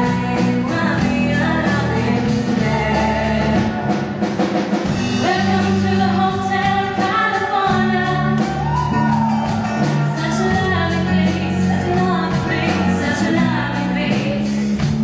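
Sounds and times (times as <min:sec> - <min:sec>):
women singing: 0:00.0 - 0:04.0, 0:05.2 - 0:09.2, 0:10.1 - 0:14.6
live pop-rock band: 0:00.0 - 0:15.0.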